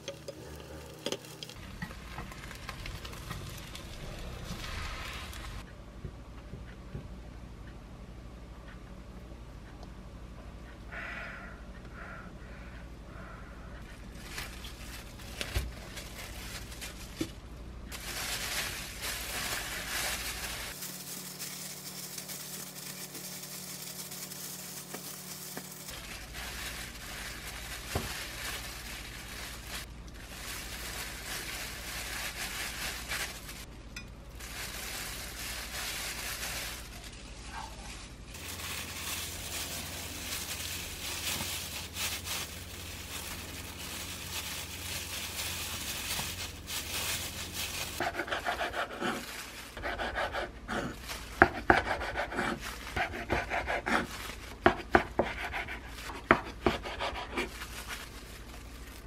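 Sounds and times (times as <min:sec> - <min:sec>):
plastic gloves rustling: 0:00.0 - 0:05.7, 0:14.0 - 0:59.0.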